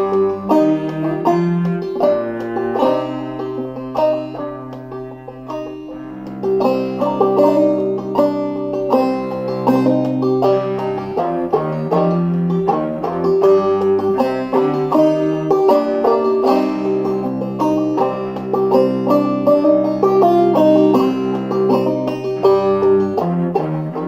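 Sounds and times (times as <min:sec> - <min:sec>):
banjo plucking quick notes: 0:00.0 - 0:24.0
cello holding low notes: 0:00.0 - 0:24.0.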